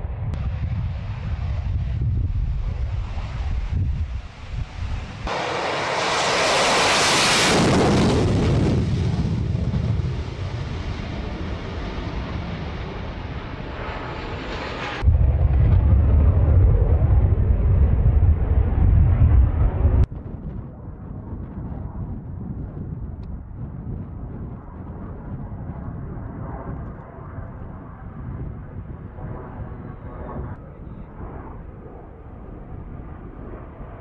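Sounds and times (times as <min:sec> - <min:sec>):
heavy low rumble: 0:00.0 - 0:31.7
jet engine noise: 0:00.0 - 0:34.0.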